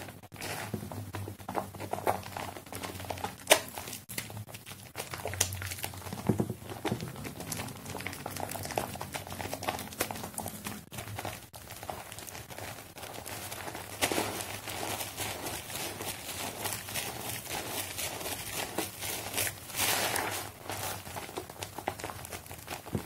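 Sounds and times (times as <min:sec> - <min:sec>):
soapy sponge squelching: 0:00.3 - 0:23.0.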